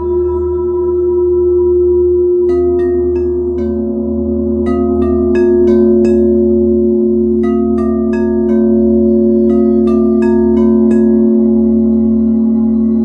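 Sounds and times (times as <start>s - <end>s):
crystal singing bowls droning: 0.0s - 13.0s
bright struck chime notes: 2.5s - 13.0s.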